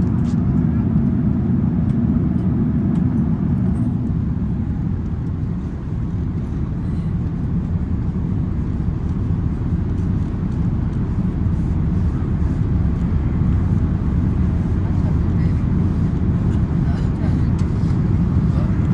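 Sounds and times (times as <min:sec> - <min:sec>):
airplane cabin low rumble: 0:00.0 - 0:18.9.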